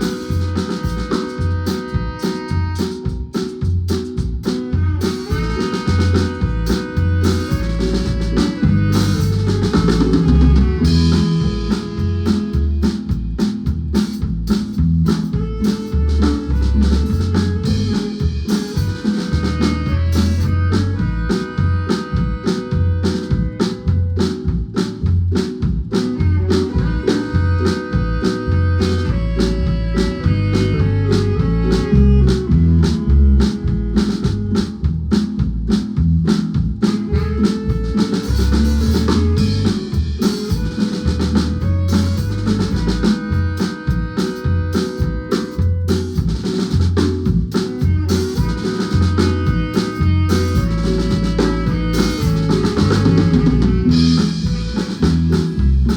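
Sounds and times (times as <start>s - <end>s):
bass: 0.0s - 55.9s
drum kit beat: 0.0s - 55.9s
marimba band playing: 0.0s - 55.9s.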